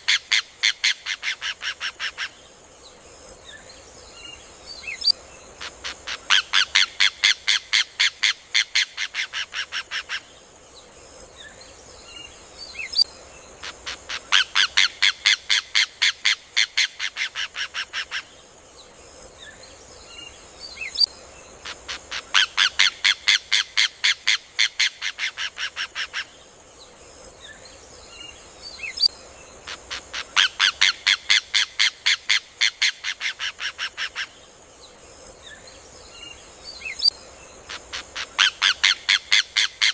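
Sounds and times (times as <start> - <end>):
faint chirps of other birds: 0.0 - 39.9.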